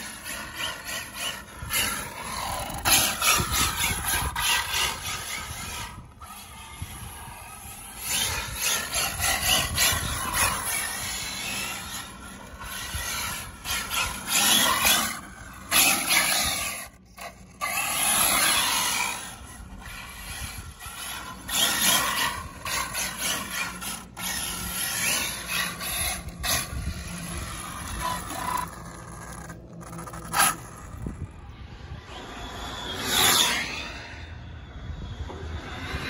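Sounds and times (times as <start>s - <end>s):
tyre noise on road: 0.0s - 34.1s.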